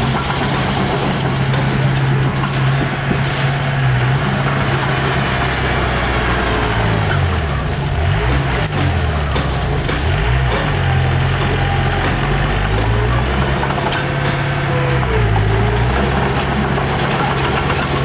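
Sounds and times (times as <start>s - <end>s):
heavy diesel engine revving: 0.0s - 18.0s.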